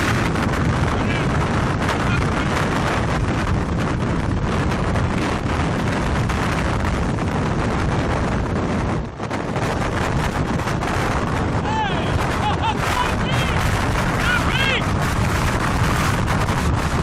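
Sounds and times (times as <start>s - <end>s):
strong wind blasting microphone: 0.0s - 17.0s.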